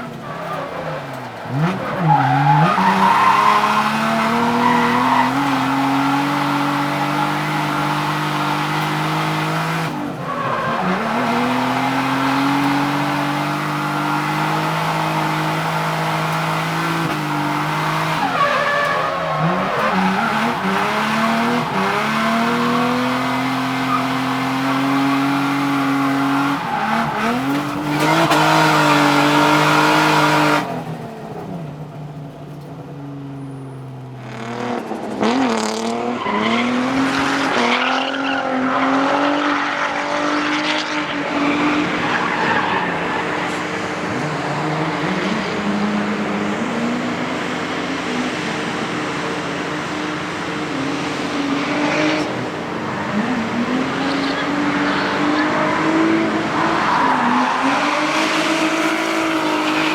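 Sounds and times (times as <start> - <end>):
tyres squealing: 0.0 - 30.7, 41.1 - 59.9
car engine revving: 0.0 - 59.9.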